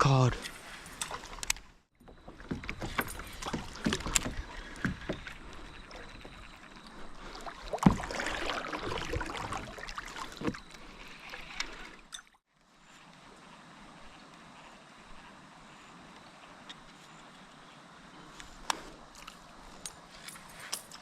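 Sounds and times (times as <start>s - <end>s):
light water noise: 0.0s - 21.0s.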